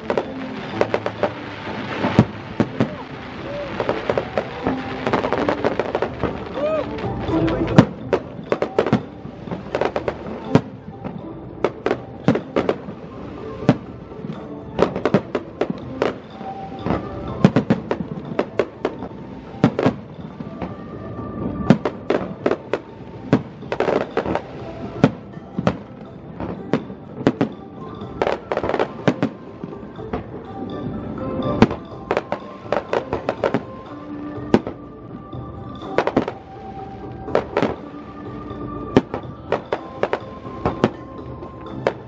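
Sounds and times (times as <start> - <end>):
fireworks bursting with sharp bangs: 0.0 - 42.0
music playing: 0.0 - 42.0.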